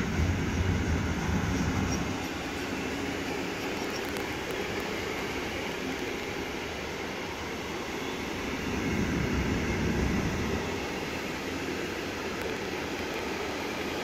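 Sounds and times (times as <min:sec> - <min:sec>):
deep train rumble: 0:00.0 - 0:14.0
freight train wheels on track: 0:00.0 - 0:14.0.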